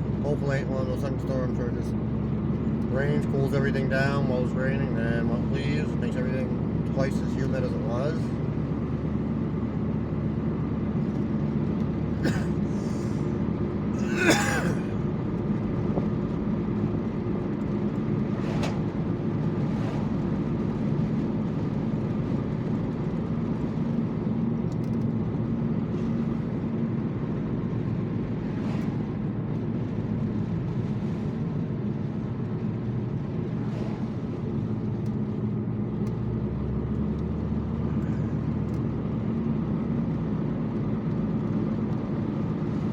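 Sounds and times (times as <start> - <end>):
car engine and road noise: 0.0 - 42.9.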